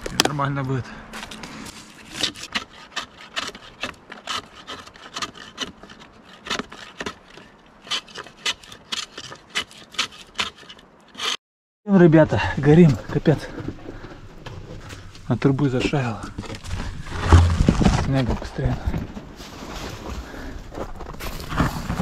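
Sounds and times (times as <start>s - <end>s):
hand tool scraping wood: 1.2s - 11.4s, 12.8s - 22.0s.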